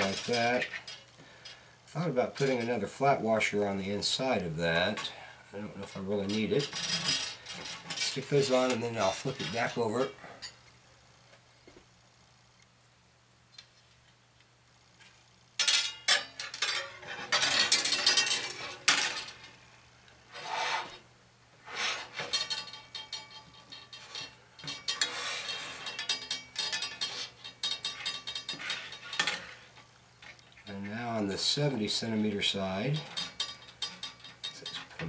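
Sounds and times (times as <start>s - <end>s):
rubbing and scraping handling noise: 0.0s - 10.6s, 14.9s - 35.0s.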